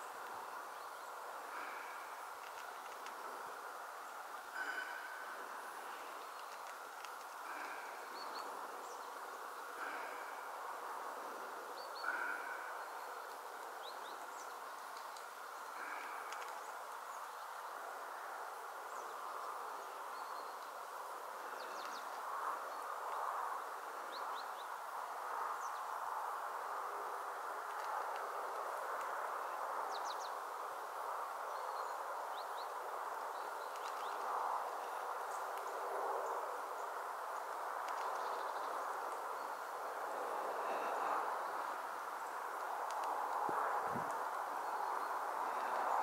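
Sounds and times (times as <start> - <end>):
outdoor background hiss: 0.0 - 46.0.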